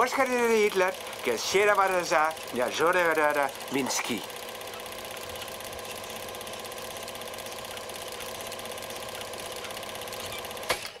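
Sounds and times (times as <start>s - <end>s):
small machine clattering: 0.0s - 11.0s.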